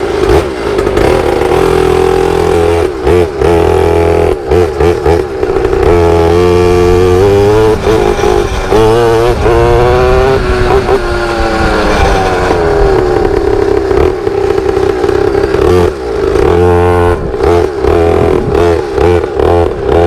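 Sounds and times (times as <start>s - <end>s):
small motorbike engine revving: 0.0s - 20.0s.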